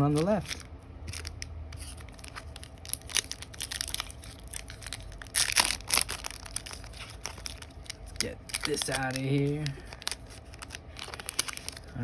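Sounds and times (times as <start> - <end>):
foil pack crinkling: 0.0 - 12.0
foil pack ripping: 2.1 - 12.0.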